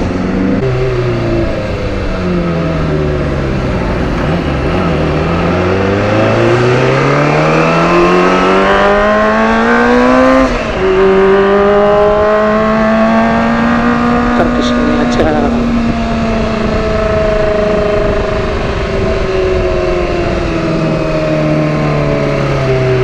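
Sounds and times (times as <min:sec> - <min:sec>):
gear change: 0:00.0 - 0:23.0
motorcycle engine accelerating: 0:00.0 - 0:23.0.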